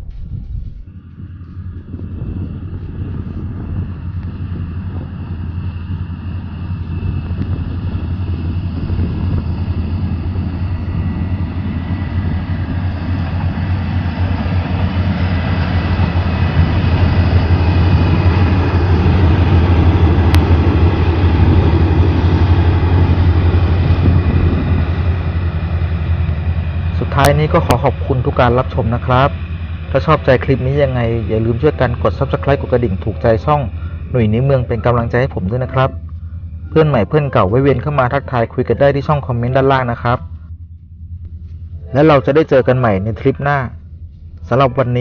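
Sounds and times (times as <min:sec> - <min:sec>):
diesel train rumbling: 0:00.0 - 0:45.0.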